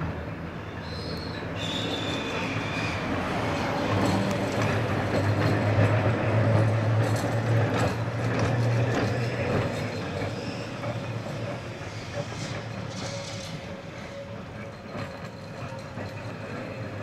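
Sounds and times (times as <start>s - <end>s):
electric tram passing on rails: 0.0s - 17.0s
tram wheels clicking: 0.0s - 17.0s.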